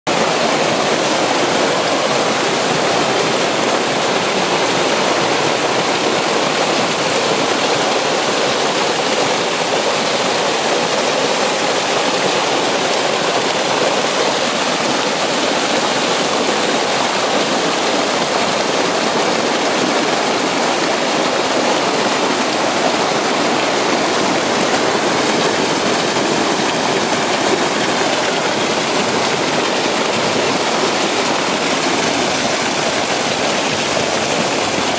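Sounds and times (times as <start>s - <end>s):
water cascading over rocks: 0.1s - 34.9s.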